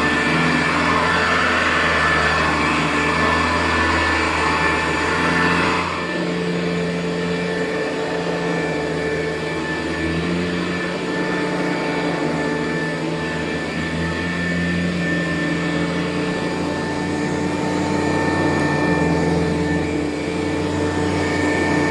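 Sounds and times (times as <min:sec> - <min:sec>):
vacuum cleaner running on carpet: 0:00.0 - 0:21.9.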